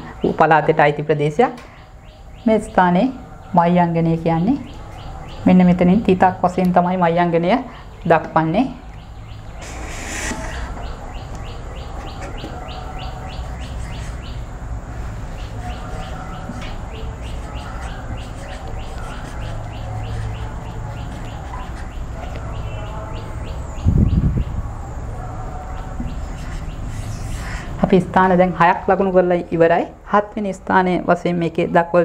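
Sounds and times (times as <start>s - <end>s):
steady low hum: 0.0s - 31.7s.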